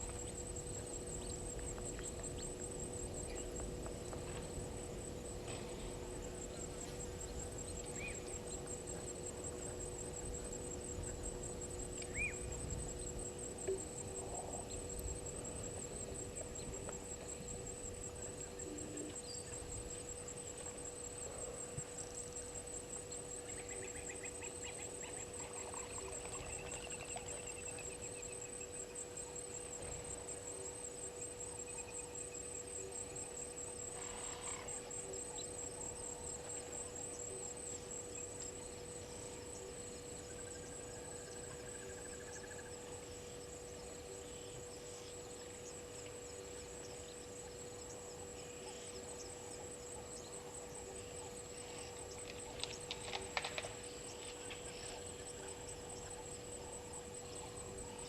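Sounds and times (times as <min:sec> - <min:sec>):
faint steady hum: 0:00.0 - 0:58.0
high-pitched insect trill: 0:00.0 - 0:58.0.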